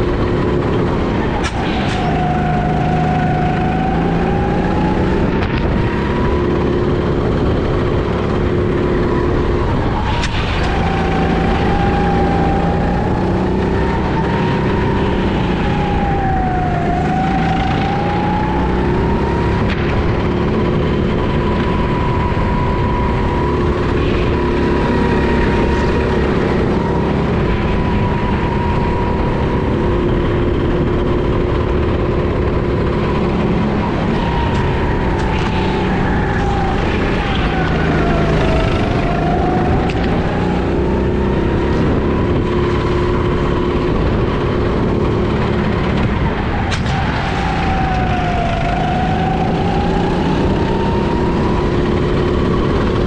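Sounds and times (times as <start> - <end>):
go-kart engine at high revs: 0.0 - 53.0.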